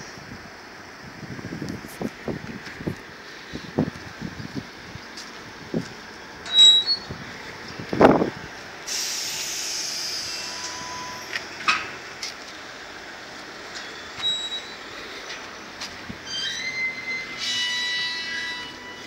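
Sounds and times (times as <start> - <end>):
train wheels hissing on rails: 0.0 - 19.0.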